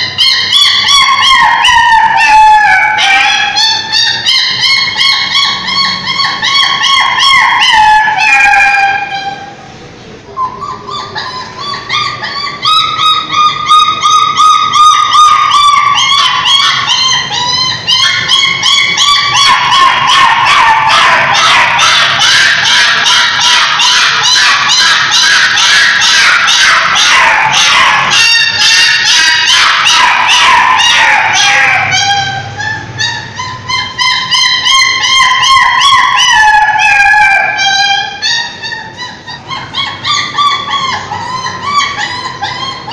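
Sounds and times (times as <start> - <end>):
puppy whining and yelping: 0.0 - 9.6, 10.4 - 42.9.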